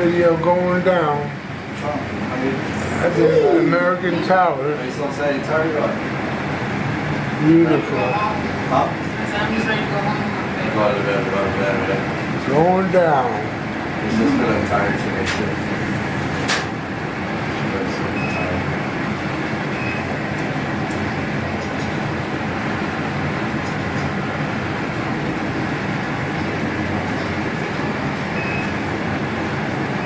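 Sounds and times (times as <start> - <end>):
elevator rushing hum and rumble: 0.0 - 30.0.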